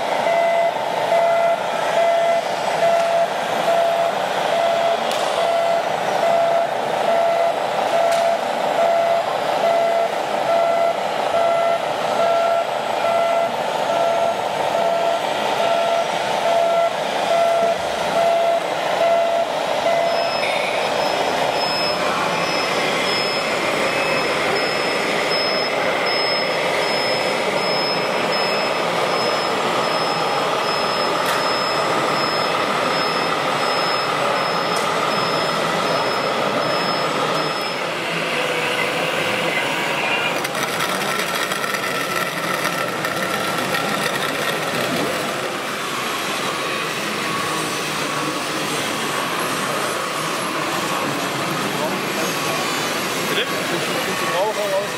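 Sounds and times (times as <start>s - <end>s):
reversing beepers: 0.1s - 54.9s.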